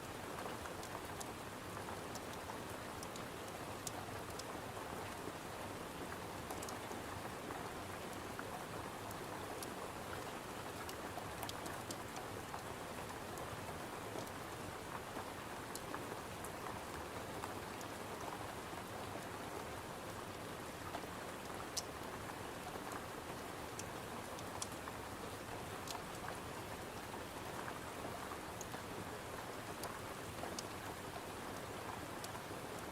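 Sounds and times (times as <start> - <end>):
rain pattering: 0.0 - 32.9.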